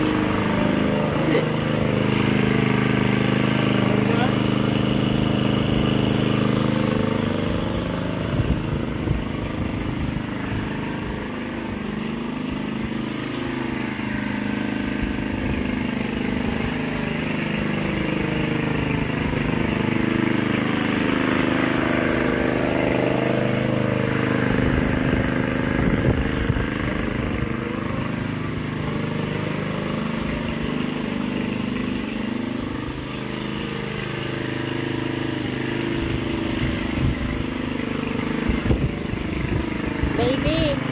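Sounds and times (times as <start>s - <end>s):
lawn mower running: 0.0s - 40.9s.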